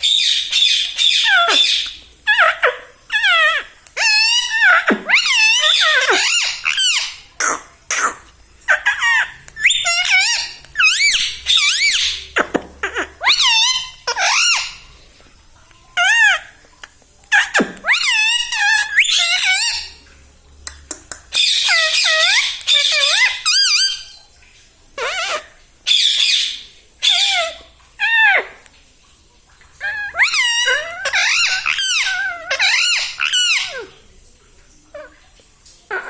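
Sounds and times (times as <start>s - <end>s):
parrot squeaky calls: 0.0s - 14.9s, 16.0s - 16.6s, 17.3s - 20.0s, 21.3s - 24.2s, 25.0s - 28.6s, 29.8s - 33.9s.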